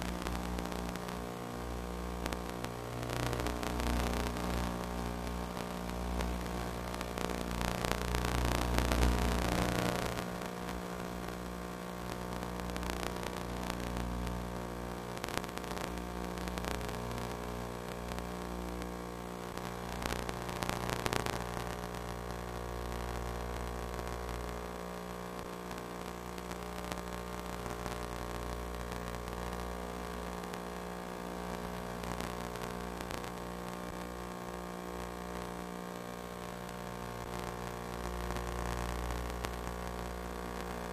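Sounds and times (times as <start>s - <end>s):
electrical hum: 0.0s - 40.9s
static crackles: 0.0s - 40.9s.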